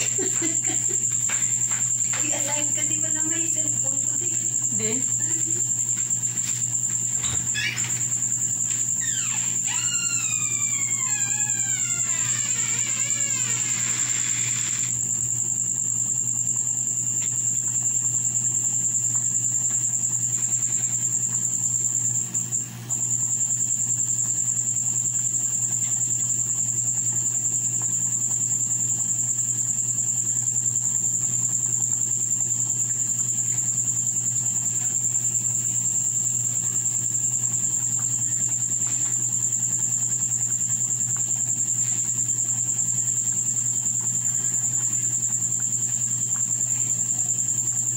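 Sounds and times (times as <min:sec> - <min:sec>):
cricket trill: 0:00.0 - 0:47.9.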